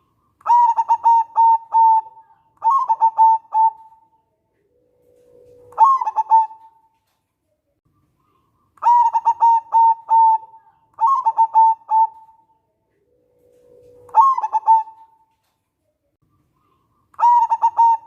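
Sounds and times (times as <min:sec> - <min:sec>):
dove cooing: 0:00.0 - 0:06.9, 0:08.3 - 0:15.2, 0:16.7 - 0:18.0.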